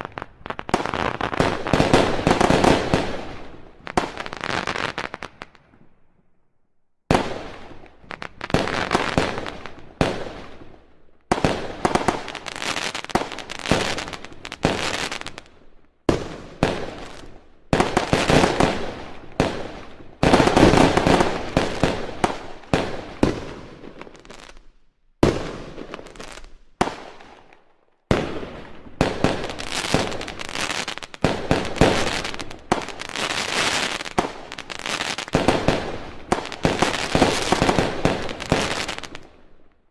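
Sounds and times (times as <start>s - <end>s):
fireworks banging and crackling: 0.0s - 5.9s, 7.1s - 39.7s.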